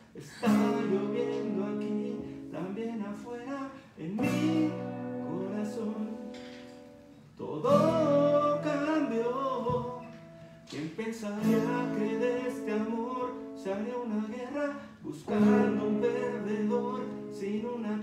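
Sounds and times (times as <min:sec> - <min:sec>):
man singing: 0:00.1 - 0:06.8, 0:07.4 - 0:18.0
acoustic guitar strumming: 0:00.2 - 0:18.0.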